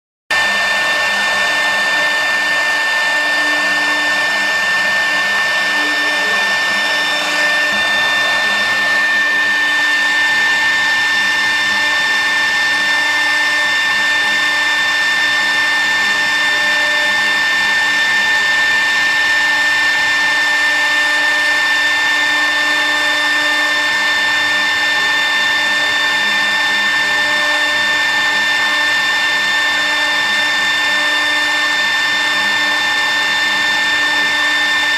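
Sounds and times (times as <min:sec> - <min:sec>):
router spindle motor whining: 0:00.3 - 0:34.9.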